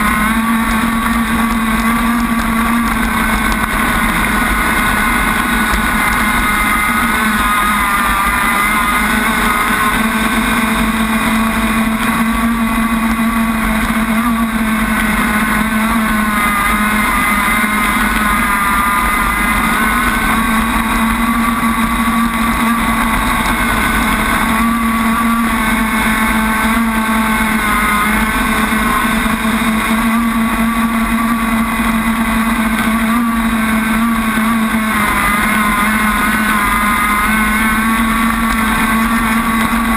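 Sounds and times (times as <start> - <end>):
boat motor running flat out: 0.0 - 39.9.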